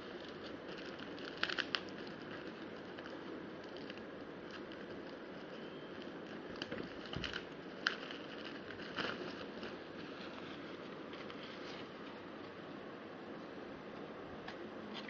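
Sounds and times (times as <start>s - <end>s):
packaging crinkling: 0.0s - 12.2s
steady background hiss: 0.0s - 15.0s.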